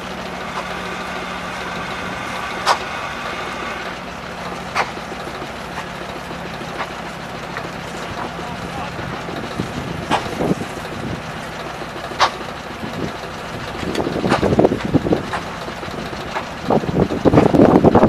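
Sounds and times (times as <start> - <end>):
engine idling: 0.0 - 18.0
sharp engine knocks: 0.0 - 18.0.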